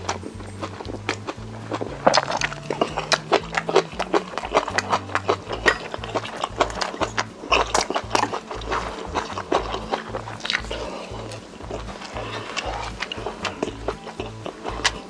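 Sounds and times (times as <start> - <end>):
background music with bass line: 0.0 - 15.0
person chewing with wet smacks: 0.0 - 15.0.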